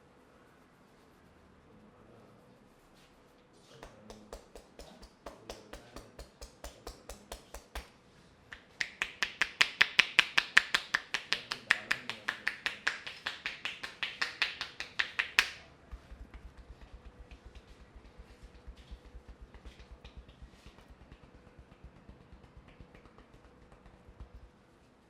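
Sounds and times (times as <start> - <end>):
rapid sharp taps: 3.8 - 25.0.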